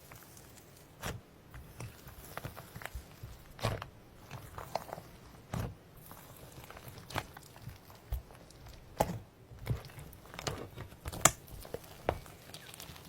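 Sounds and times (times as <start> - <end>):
slime squelching and popping: 0.1 - 13.0.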